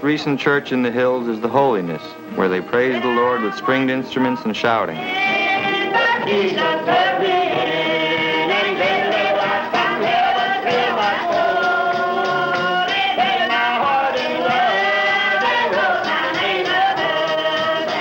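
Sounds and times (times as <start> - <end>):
strummed acoustic guitars: 0.0 - 18.0
group singing gospel: 1.7 - 18.0.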